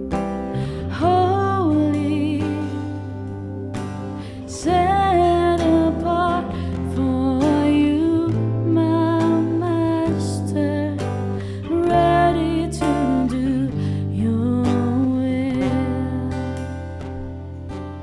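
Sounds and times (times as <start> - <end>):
person singing long wavering notes: 0.0 - 17.1
guitar: 0.0 - 18.0
steady bass: 0.0 - 18.0.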